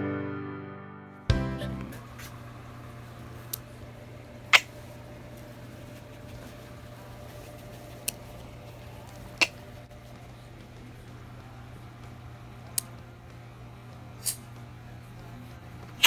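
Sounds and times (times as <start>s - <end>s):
steady low hum: 1.3s - 16.0s.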